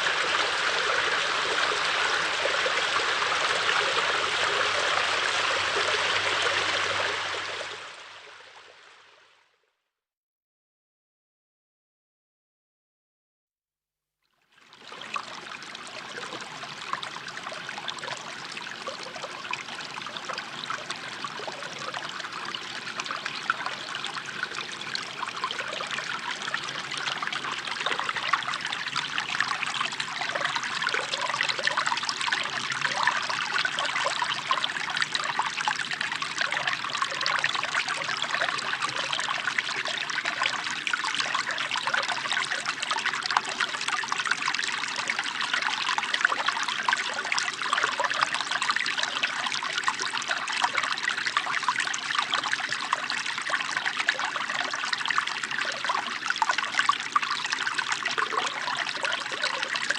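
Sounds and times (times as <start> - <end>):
water trickling and gurgling: 0.0 - 9.2, 14.4 - 59.9.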